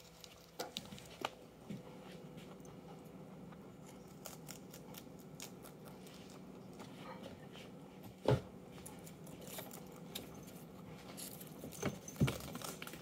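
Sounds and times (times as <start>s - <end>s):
rabbit chewing leaves: 0.0s - 13.0s.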